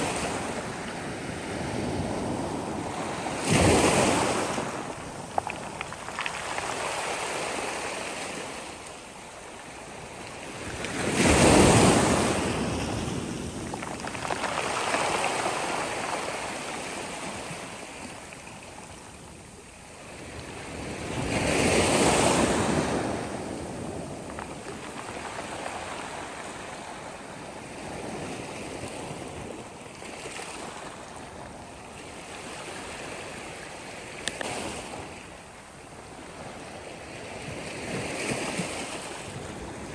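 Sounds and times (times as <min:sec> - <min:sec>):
sea waves breaking on shore: 0:00.0 - 0:35.3
continuous surf wash: 0:00.0 - 0:39.9.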